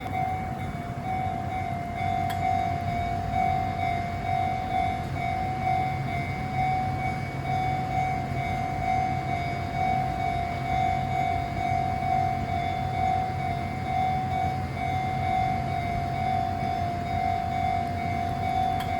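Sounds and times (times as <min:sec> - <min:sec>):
train high whine: 0:00.0 - 0:18.9
train low rumble: 0:00.0 - 0:18.9.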